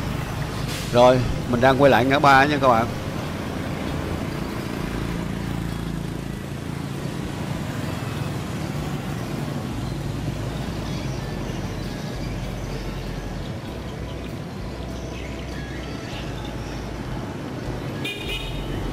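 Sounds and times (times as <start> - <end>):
motorbikes passing: 0.0 - 18.9
traffic noise: 0.0 - 18.9.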